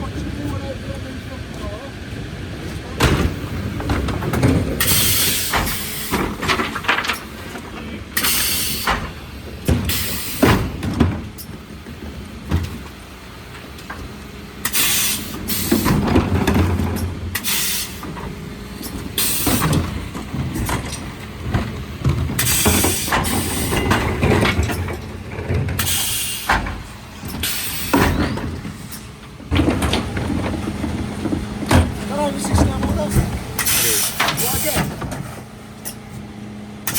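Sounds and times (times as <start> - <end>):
truck engine rumble: 0.0 - 36.9.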